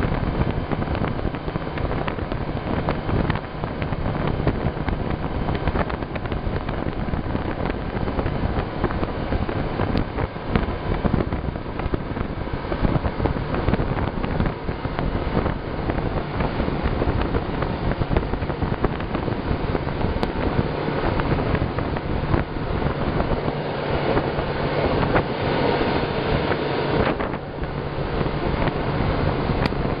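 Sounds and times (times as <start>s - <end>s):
boat motor humming: 0.0s - 30.0s
wind and water rushing: 0.0s - 30.0s.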